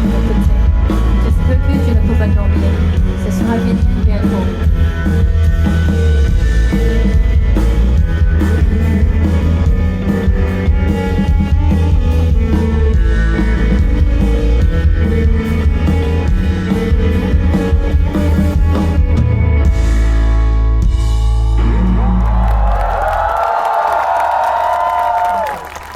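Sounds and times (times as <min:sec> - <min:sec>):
heavy booming bass: 0:00.0 - 0:22.6
live rock band: 0:00.0 - 0:25.9.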